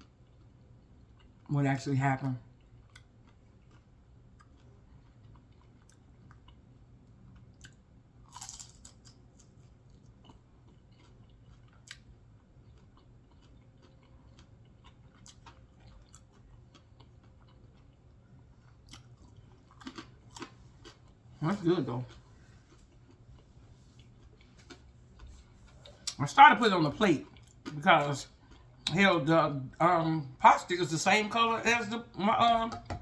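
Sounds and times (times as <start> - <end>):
chewing food with crunches: 0.0 - 1.5, 2.2 - 29.1.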